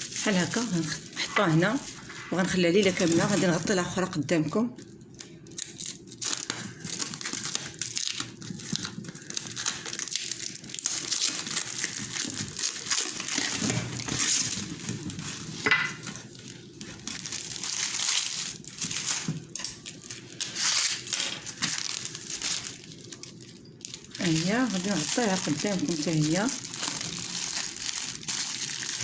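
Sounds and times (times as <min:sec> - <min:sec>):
cling film crinkling: 0:00.0 - 0:29.0.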